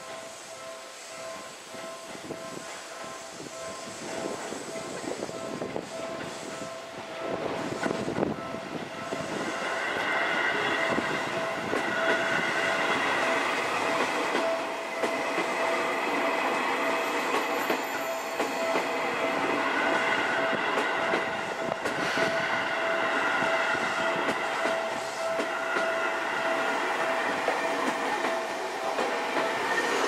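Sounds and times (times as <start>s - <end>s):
electric train passing: 0.0s - 30.0s
steady high tone: 0.0s - 30.0s.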